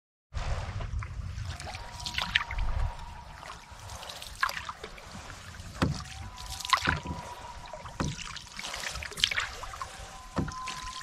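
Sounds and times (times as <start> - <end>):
canoe paddle strokes in water: 0.4 - 11.0.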